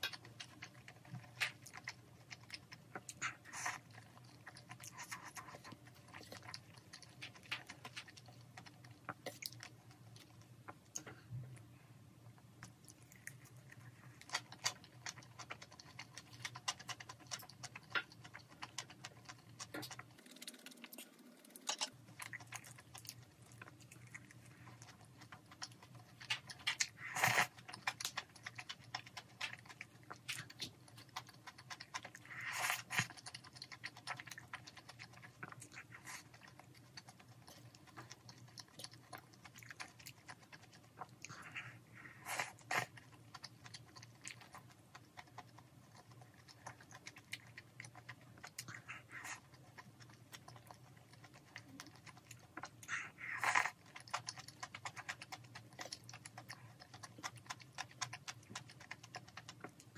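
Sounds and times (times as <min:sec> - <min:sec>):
person chewing lettuce wrap: 0:00.0 - 0:11.7, 0:12.4 - 0:59.9.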